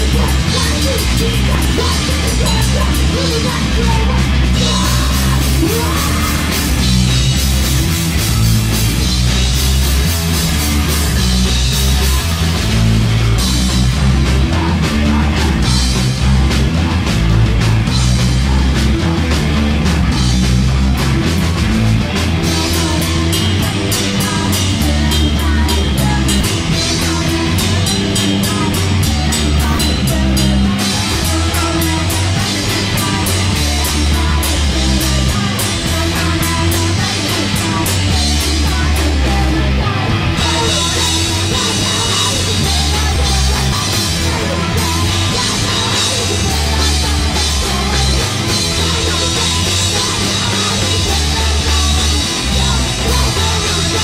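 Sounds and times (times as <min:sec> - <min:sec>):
punk band playing: 0:00.0 - 0:54.0.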